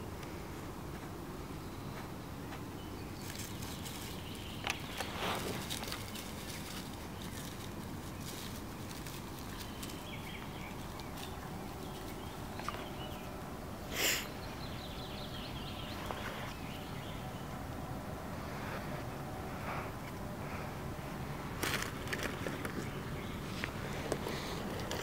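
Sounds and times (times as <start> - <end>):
low background hiss: 0.0 - 25.0.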